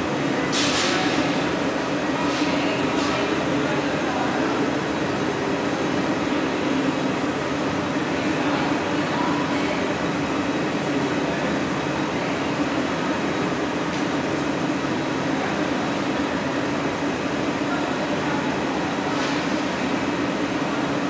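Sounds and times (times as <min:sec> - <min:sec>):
ventilation fans: 0:00.0 - 0:21.0.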